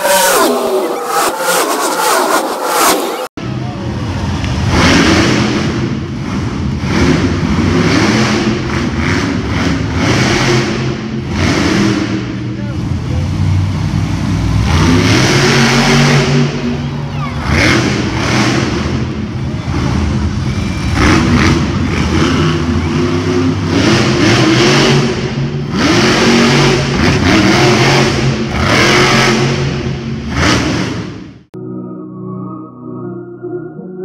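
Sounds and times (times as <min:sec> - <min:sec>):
truck engine revving: 0:00.0 - 0:31.5.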